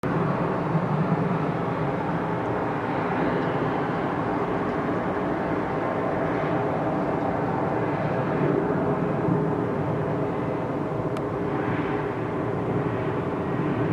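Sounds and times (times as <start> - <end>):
jet airliner engines drone: 0.0 - 13.9.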